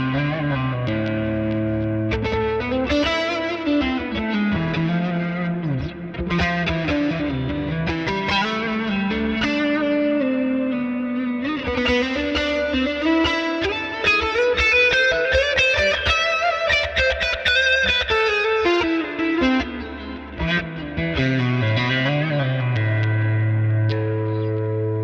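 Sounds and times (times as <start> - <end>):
distorted electric guitar melody: 0.0 - 25.0.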